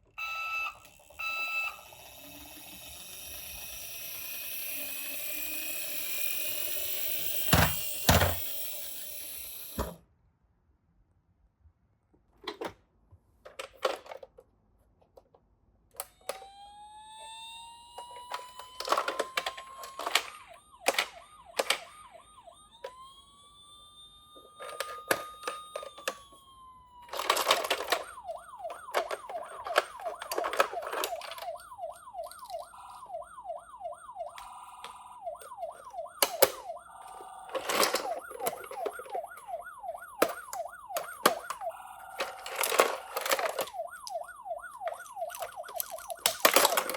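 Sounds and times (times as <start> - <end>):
toy electronic siren: 0.0 - 10.0, 16.0 - 46.9
toy cars clattering: 0.8 - 9.9, 13.4 - 14.4, 17.8 - 46.9.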